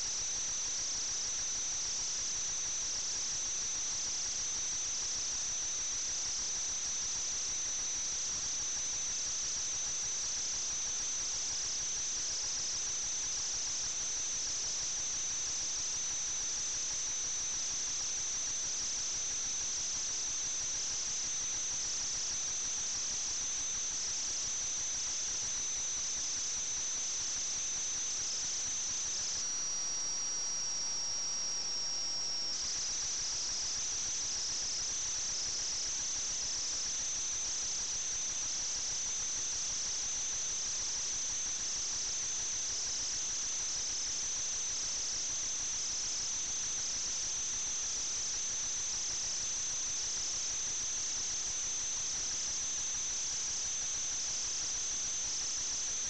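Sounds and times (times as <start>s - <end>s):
pulsing high-pitched whine: 0.0s - 56.0s.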